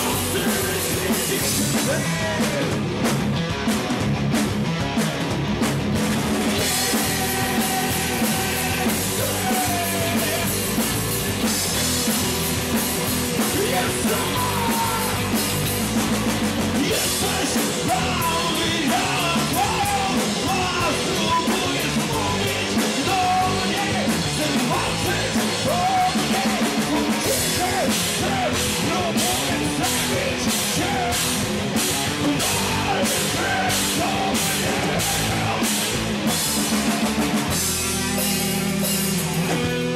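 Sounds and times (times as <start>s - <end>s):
singer shouting and singing: 0.0s - 2.9s, 6.6s - 11.8s, 13.4s - 15.7s, 16.7s - 36.4s, 37.7s - 39.8s
bass guitar: 0.0s - 39.9s
drum kit: 0.0s - 39.9s
electric guitars: 0.0s - 39.9s.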